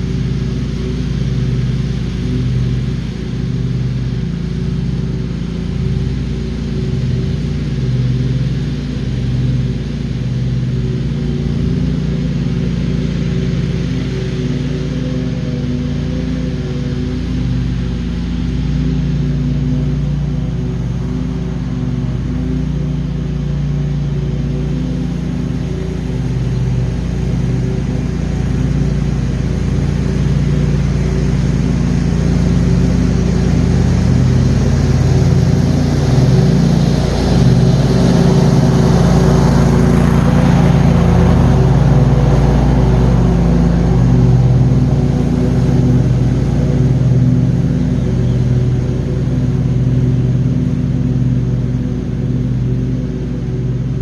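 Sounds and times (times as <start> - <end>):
mower engine drone: 0.0 - 54.0.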